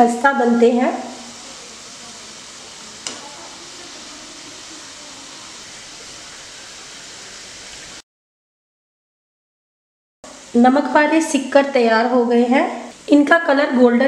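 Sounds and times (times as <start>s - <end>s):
dough sizzling in hot oil: 0.0s - 8.0s, 10.3s - 14.0s.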